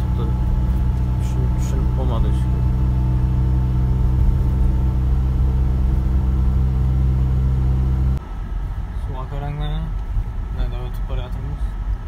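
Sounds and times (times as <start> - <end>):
truck diesel engine cruising: 0.0 - 10.6
road rumble: 0.0 - 12.0.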